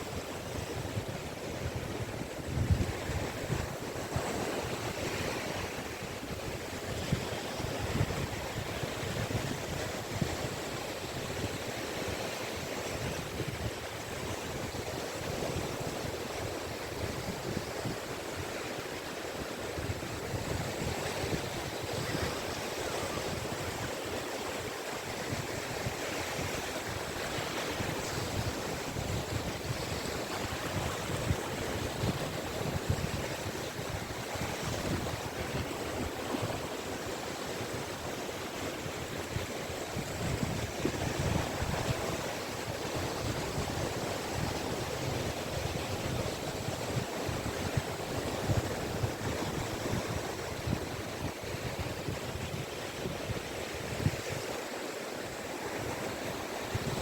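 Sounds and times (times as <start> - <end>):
sea waves washing onto beach: 0.0 - 57.0
wind rumbling on microphone: 0.0 - 57.0.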